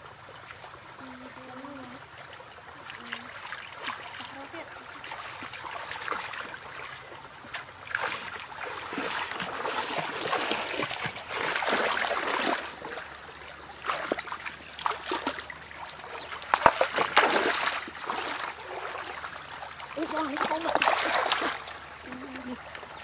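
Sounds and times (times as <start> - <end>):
running stream: 0.0 - 23.0
water splashing in stream: 0.0 - 23.0.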